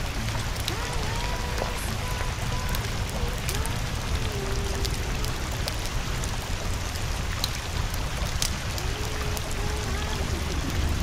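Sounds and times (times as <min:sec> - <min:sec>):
low hum: 0:00.0 - 0:11.0
steady rain: 0:00.0 - 0:11.0.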